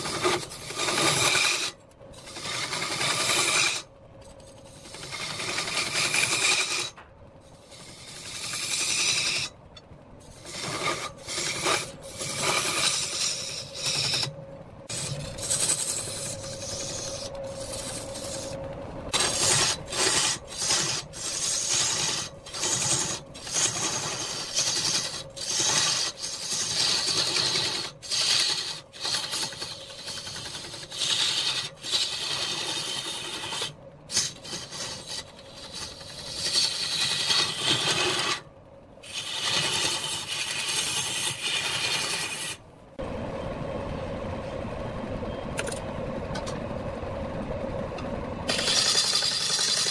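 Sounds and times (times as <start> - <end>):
lathe tool scraping wood: 0.0 - 7.0, 7.6 - 9.5, 10.2 - 14.3, 14.9 - 38.4, 39.0 - 42.6, 48.5 - 49.9.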